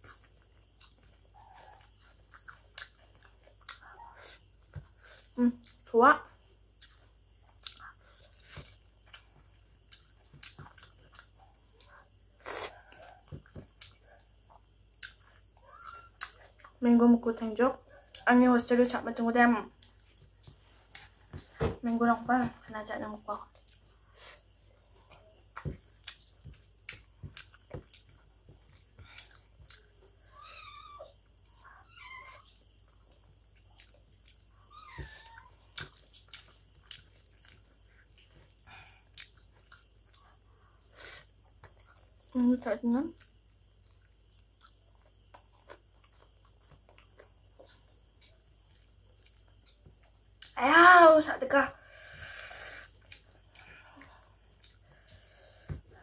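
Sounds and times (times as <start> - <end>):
wet chewing and mouth smacks: 0.0 - 16.8, 23.4 - 30.4, 31.0 - 42.4, 43.1 - 50.6, 52.9 - 56.0.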